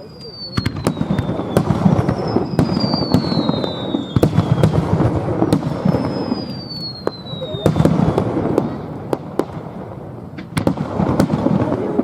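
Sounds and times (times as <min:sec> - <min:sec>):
descending firework whistles: 0:00.0 - 0:09.9
fireworks crackling and rumbling: 0:00.0 - 0:12.0
fireworks sharp bangs: 0:00.0 - 0:12.0.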